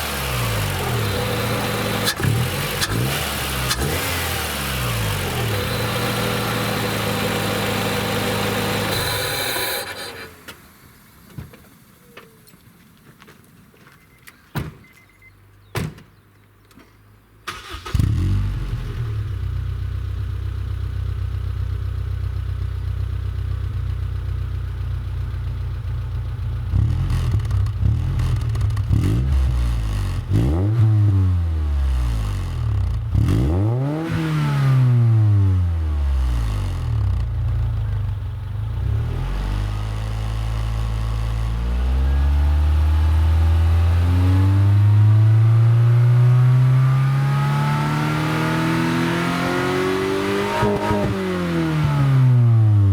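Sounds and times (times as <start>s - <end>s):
car engine idling and revving: 0.0s - 12.7s, 17.5s - 52.9s.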